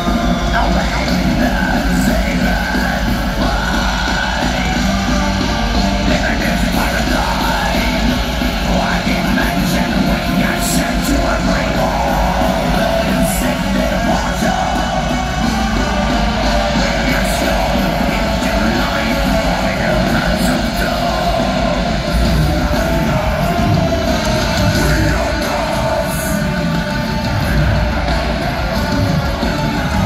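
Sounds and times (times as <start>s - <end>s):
live metal band playing: 0.0s - 30.0s
shouted vocals: 0.0s - 30.0s.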